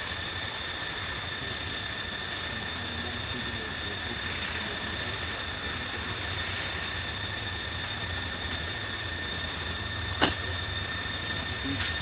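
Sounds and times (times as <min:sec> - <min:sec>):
high-pitched insect drone: 0:00.0 - 0:12.0
low steady rumble: 0:00.0 - 0:12.0.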